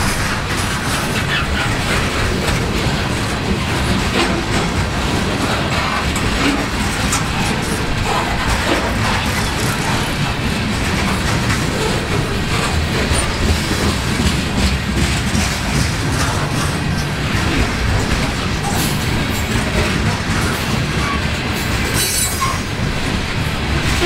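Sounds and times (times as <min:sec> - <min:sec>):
steel wheels rolling on rail: 0:00.0 - 0:24.0
wheels clicking over rail joints: 0:00.0 - 0:24.0.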